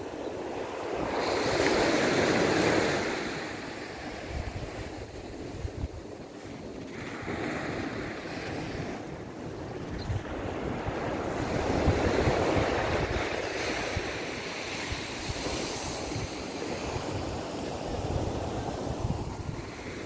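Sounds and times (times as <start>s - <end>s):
waves washing on beach: 0.0s - 9.6s, 10.2s - 20.0s
wind buffeting microphone: 0.5s - 20.0s.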